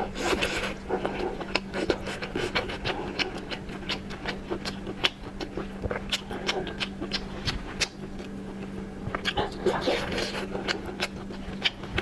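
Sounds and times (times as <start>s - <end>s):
steady low hum: 0.0s - 12.0s
wet eating clicks and smacks: 0.2s - 12.0s.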